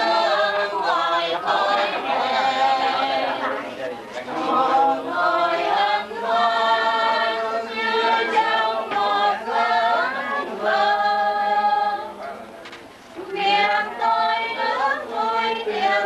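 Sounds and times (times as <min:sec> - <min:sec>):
group singing a hymn unaccompanied: 0:00.0 - 0:12.4, 0:13.2 - 0:16.0.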